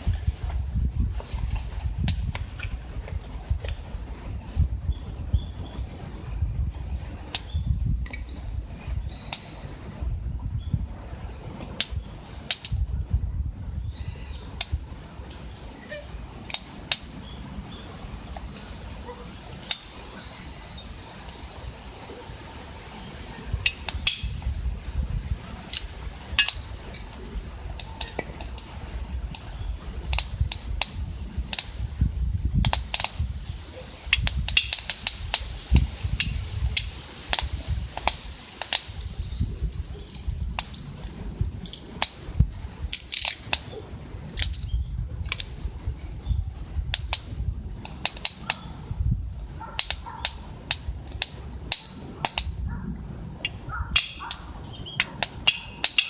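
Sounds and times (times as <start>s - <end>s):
low fire rumble: 0.0s - 56.0s
wood fire crackling: 0.0s - 56.0s.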